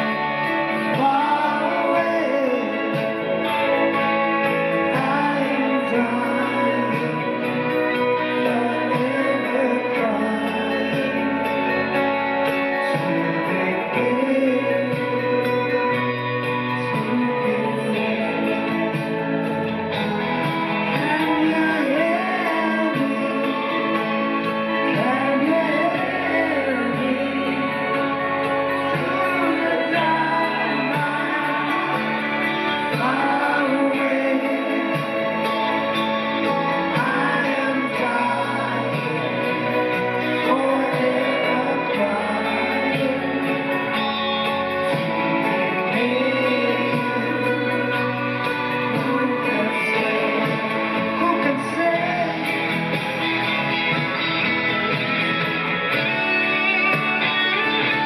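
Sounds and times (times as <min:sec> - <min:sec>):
live pop-rock band playing: 0:00.0 - 0:58.0
person singing: 0:00.0 - 0:58.0.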